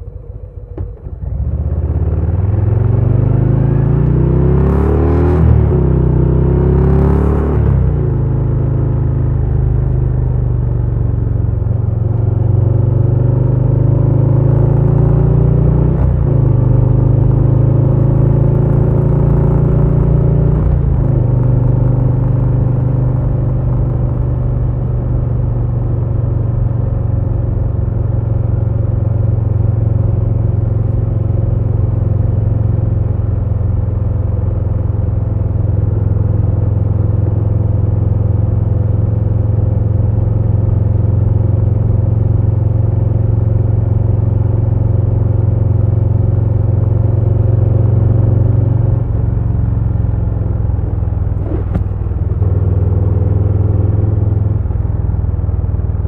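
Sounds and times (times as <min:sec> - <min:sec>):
motorcycle engine running: 0:00.0 - 0:04.9, 0:05.6 - 0:56.0.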